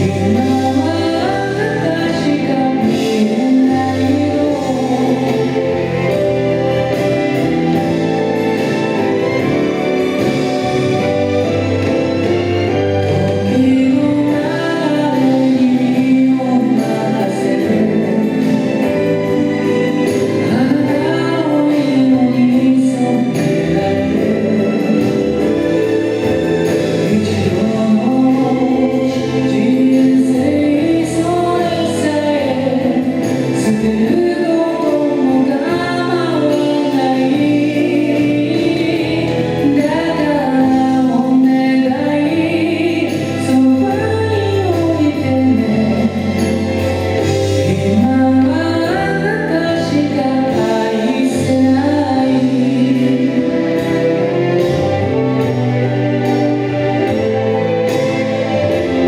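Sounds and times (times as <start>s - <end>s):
instrumental accompaniment: 0.0s - 59.0s.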